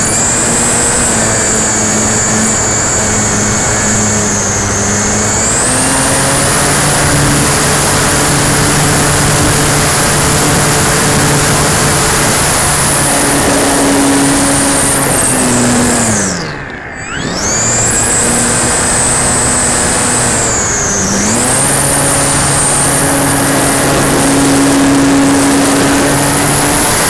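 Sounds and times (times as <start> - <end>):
electric motor and propeller whine: 0.0 - 27.0.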